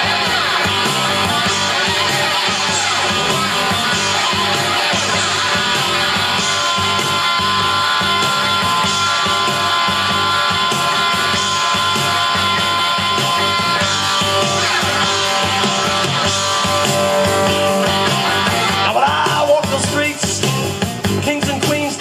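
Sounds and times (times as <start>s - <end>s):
lead guitar holding long notes: 0.0s - 21.3s
blues-rock band groove: 0.0s - 22.0s.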